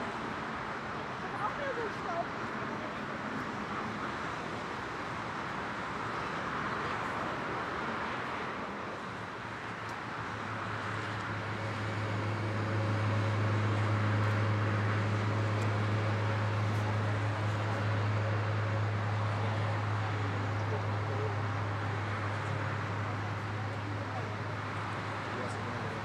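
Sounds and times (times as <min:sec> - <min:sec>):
aircraft tug engine drone: 0:00.0 - 0:26.0.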